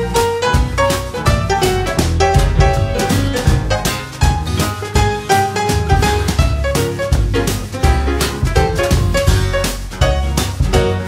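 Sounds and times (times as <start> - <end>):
acoustic blues band playing: 0.0 - 11.0.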